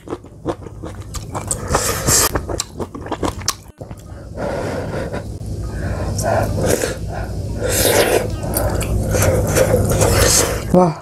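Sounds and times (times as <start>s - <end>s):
person chewing food: 0.0s - 5.4s, 6.0s - 10.7s.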